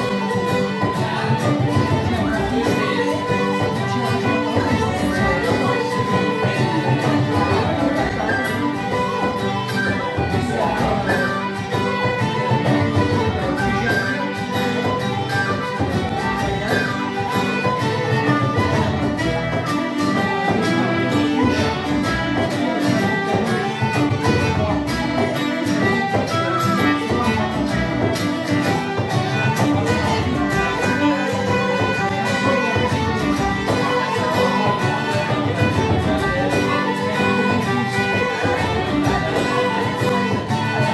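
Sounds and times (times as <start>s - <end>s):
fiddle: 0.0s - 40.9s
small pipes playing melody: 0.0s - 40.9s
strummed acoustic guitar: 0.0s - 40.9s.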